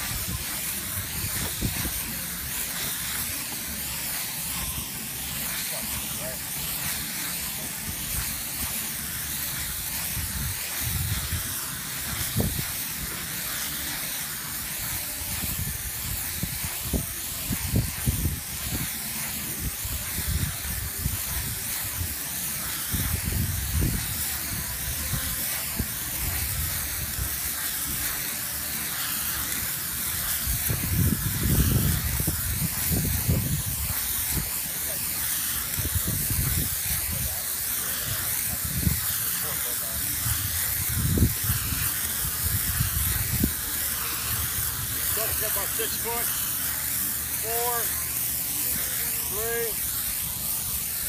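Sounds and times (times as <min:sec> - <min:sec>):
aerosol spray hissing: 0:00.0 - 0:51.0.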